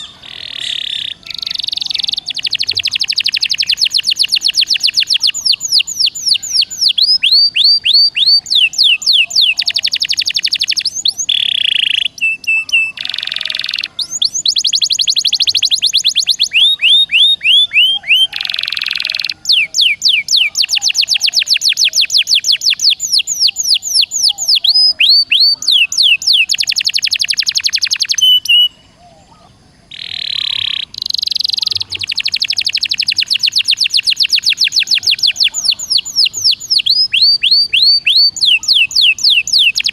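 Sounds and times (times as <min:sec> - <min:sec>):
songbird trills: 0:00.0 - 0:39.9.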